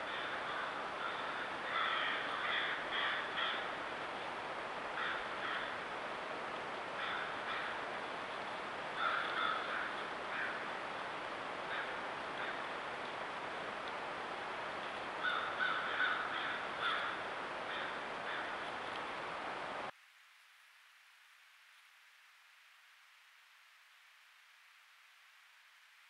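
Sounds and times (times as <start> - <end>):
microphone hiss: 0.0 - 26.0.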